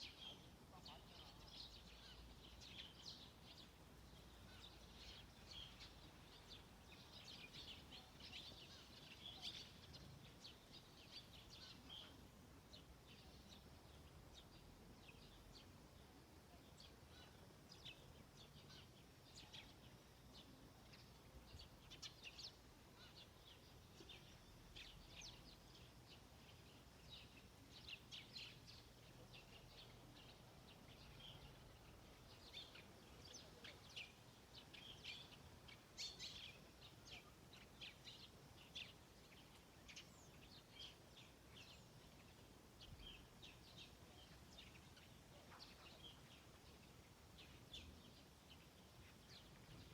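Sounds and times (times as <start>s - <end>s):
low steady background hum: 0.0s - 49.9s
small birds chirping: 0.0s - 49.9s.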